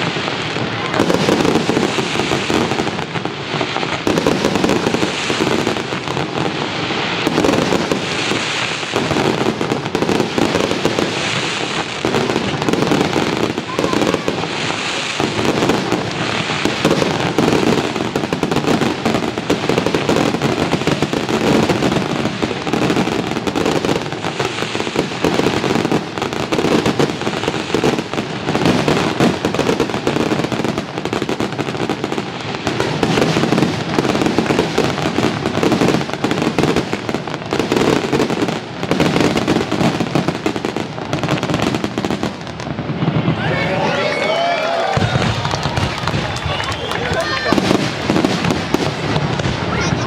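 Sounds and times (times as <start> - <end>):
fireworks bursting and crackling: 0.0 - 50.0.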